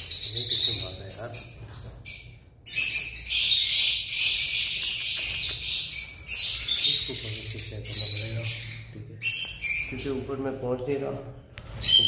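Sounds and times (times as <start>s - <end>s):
lovebirds chattering: 0.0s - 12.0s.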